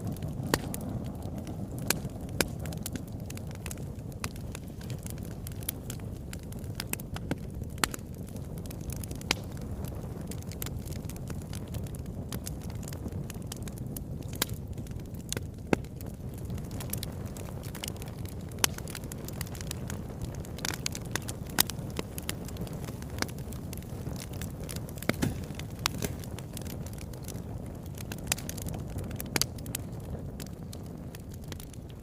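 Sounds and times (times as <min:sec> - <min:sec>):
burning logs crackling and popping: 0:00.0 - 0:32.0
low rumble of flames: 0:00.0 - 0:32.0.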